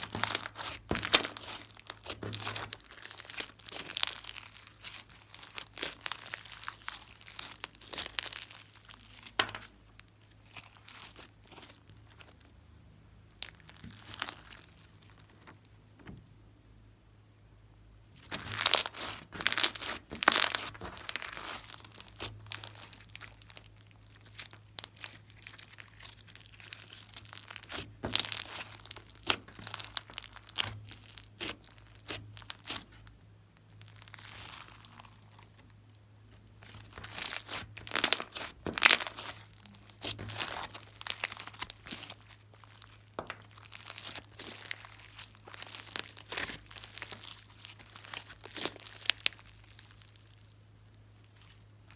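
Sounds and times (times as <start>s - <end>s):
slime squished by hand: 0.0s - 12.5s, 13.3s - 15.6s, 18.2s - 50.5s.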